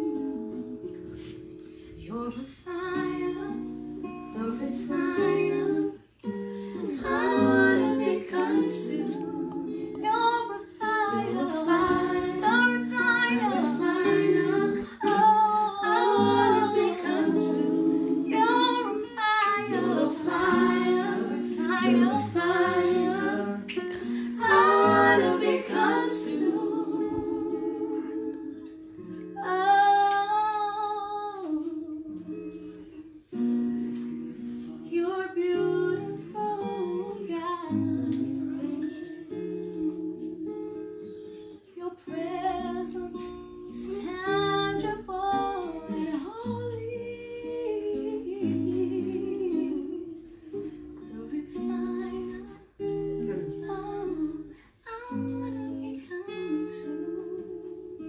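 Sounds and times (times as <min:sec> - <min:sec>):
acoustic guitar: 0:00.0 - 0:58.0
woman singing: 0:02.0 - 0:28.8, 0:29.4 - 0:33.3, 0:34.9 - 0:40.8, 0:41.6 - 0:58.0.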